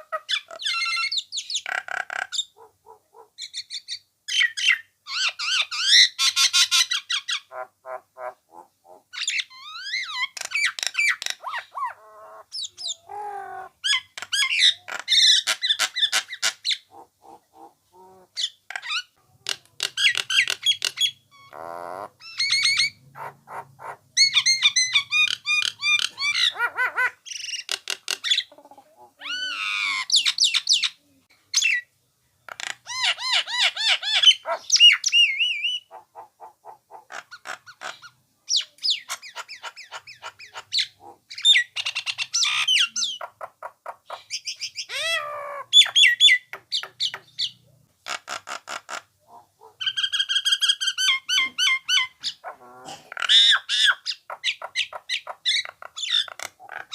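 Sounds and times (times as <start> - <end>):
myna calling: 0.0 - 3.7, 4.4 - 31.8, 32.5 - 56.9.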